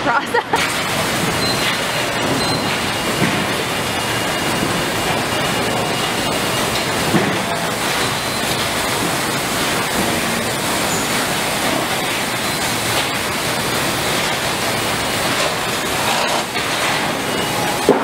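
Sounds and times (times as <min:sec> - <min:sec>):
factory floor hiss and hum: 0:00.0 - 0:18.0.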